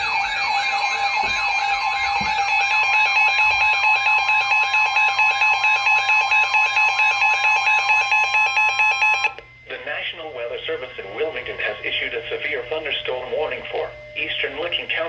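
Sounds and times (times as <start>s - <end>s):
electronic siren-like warble: 0.0s - 15.0s
steady high tone: 0.0s - 15.0s.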